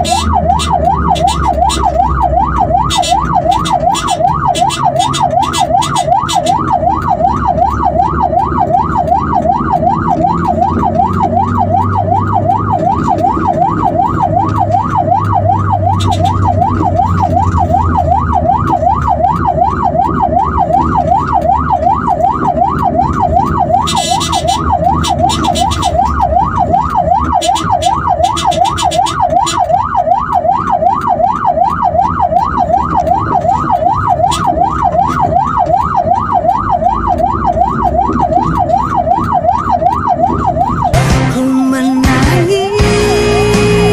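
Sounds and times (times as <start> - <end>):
engine and road rumble: 0.0 - 43.9
siren in fast yelp mode: 0.0 - 43.9.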